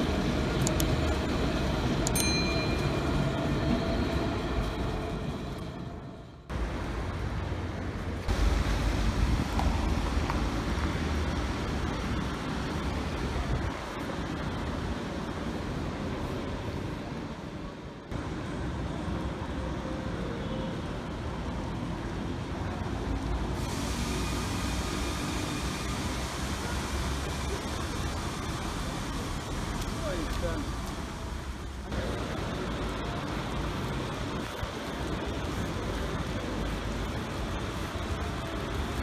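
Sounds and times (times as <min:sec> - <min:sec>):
traffic noise with low rumble: 0:00.0 - 0:39.0.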